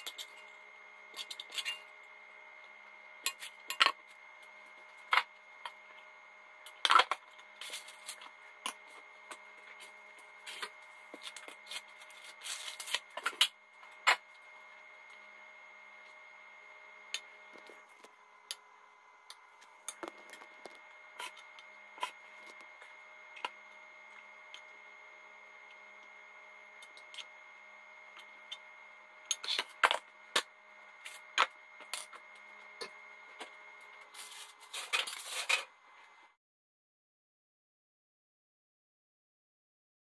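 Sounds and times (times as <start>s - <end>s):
steady hum: 0.0s - 36.4s.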